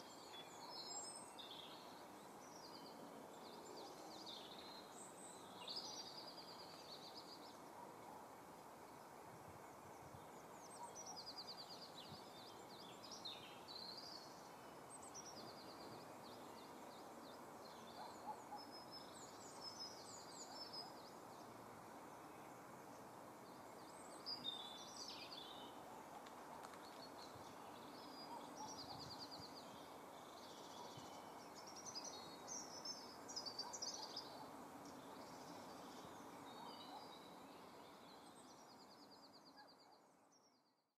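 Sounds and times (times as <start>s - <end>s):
small birds singing with trills: 0.0s - 40.9s
faint steady background noise: 0.0s - 41.0s.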